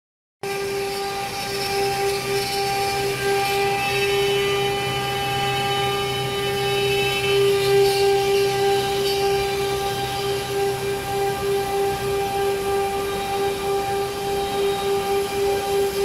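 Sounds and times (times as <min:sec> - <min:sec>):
router spindle high whine: 0:00.4 - 0:16.0.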